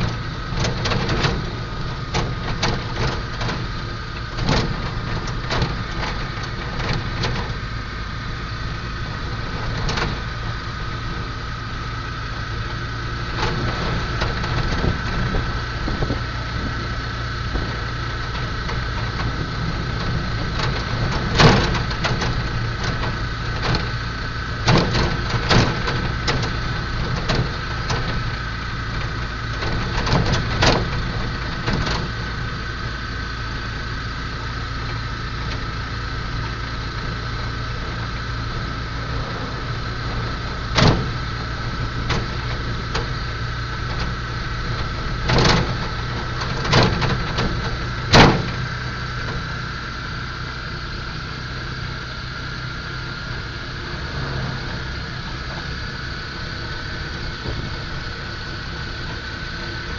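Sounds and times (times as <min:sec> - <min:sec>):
rattles and knocks: 0:00.0 - 0:33.4, 0:34.0 - 0:49.8
steady whine: 0:00.0 - 0:59.9
vehicle cabin engine hum: 0:00.0 - 0:59.9.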